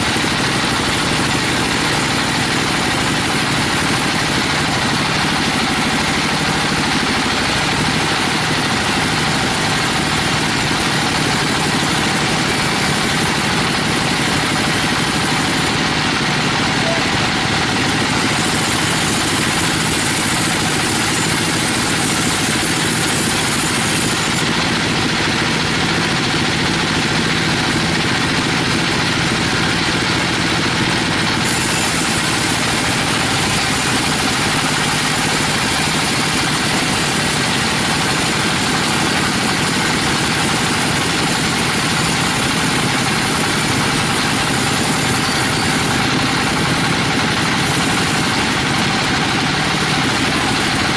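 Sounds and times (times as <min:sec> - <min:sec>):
band saw cutting log: 0:00.0 - 0:50.9.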